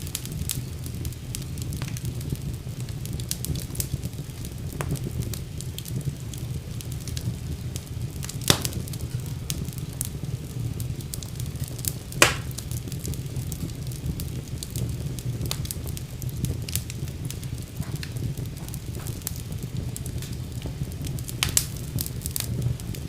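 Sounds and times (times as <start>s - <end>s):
fire crackles and pops: 0.0s - 23.0s
low rumble of flame: 0.0s - 23.0s.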